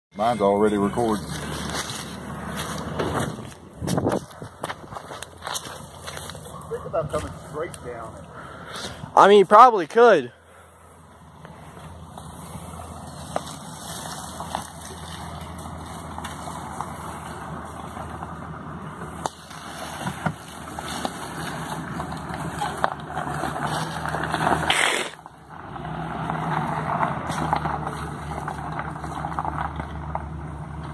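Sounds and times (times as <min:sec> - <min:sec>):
tyres on gravel: 0:00.1 - 0:30.9
car engine running at low speed: 0:00.2 - 0:30.9.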